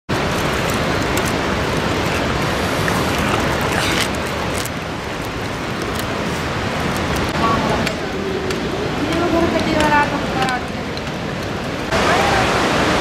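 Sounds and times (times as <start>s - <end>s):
river rushing: 0.1s - 13.0s.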